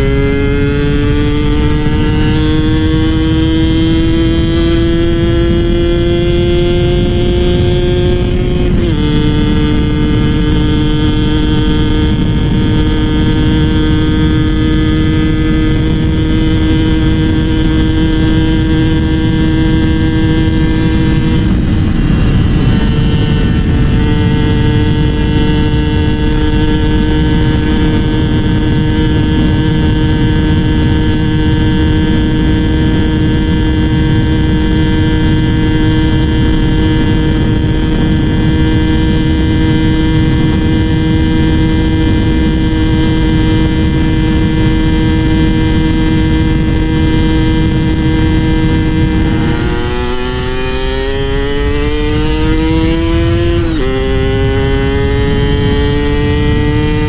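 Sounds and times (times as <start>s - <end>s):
two-stroke motorcycle engine: 0.0s - 57.0s.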